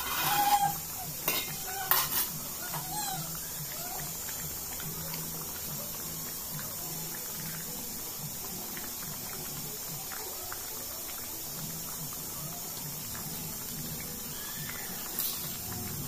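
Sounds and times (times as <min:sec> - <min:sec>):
pot boiling with bubbling pops: 0:00.0 - 0:16.0
steady hiss: 0:00.0 - 0:16.0.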